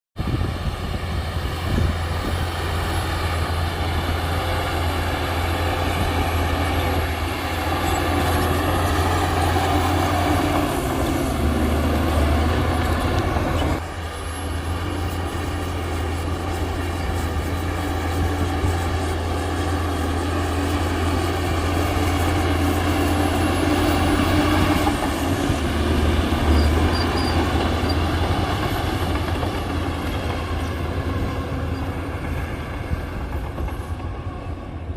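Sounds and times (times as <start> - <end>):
bulldozer diesel engine running: 0.2 - 34.9.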